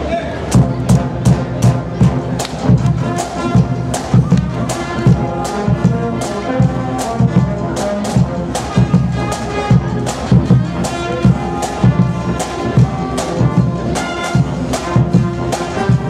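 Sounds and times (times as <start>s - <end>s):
marching band brass tune: 0.4s - 16.0s
steady drum beat: 0.5s - 16.0s.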